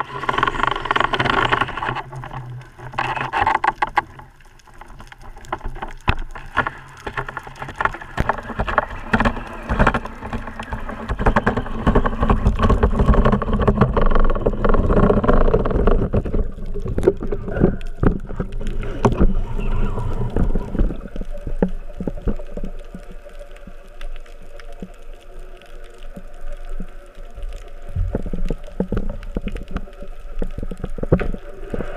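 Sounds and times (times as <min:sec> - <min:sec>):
underwater water rushing: 0:00.0 - 0:31.9.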